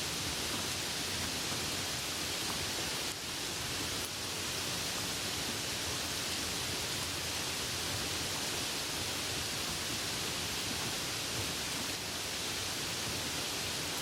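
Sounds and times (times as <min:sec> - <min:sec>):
soft rain falling: 0:00.0 - 0:14.0.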